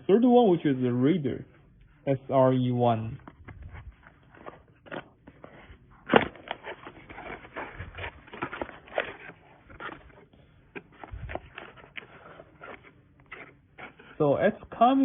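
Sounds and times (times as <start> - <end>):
cardboard packaging rustling: 3.0 - 15.0.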